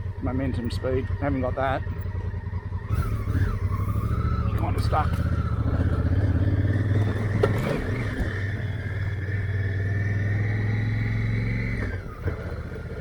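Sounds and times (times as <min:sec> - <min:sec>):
motorcycle engine under load: 0:00.0 - 0:13.0.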